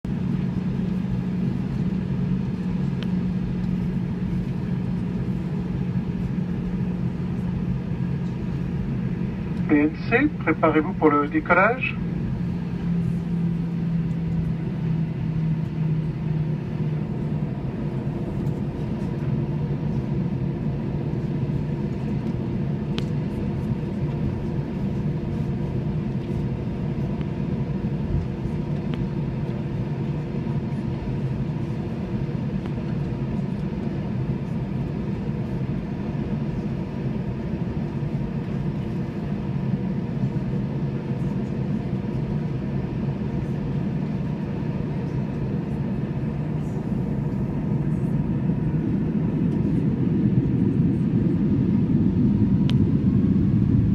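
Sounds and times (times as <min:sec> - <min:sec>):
jet engines droning inside cabin: 0:00.0 - 0:53.9.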